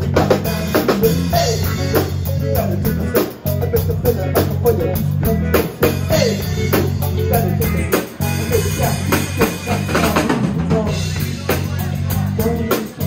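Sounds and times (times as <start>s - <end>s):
rock band playing loud: 0.0s - 13.0s.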